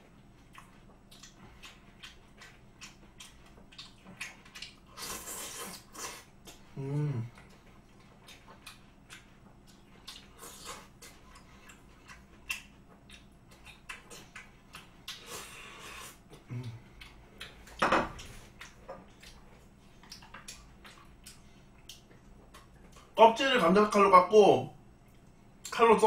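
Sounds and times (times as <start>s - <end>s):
wet chewing and mouth smacks: 0.0s - 6.7s, 7.3s - 23.2s
closed-mouth hum: 0.0s - 26.0s.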